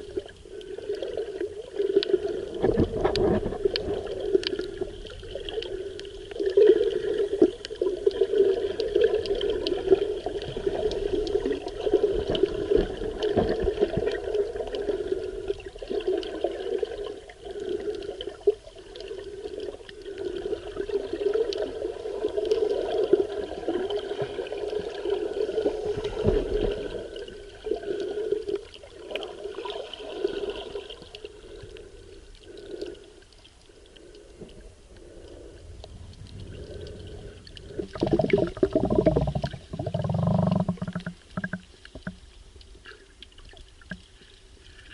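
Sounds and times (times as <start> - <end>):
seawater sloshing and gurgling: 0.0 - 33.1, 34.6 - 42.2.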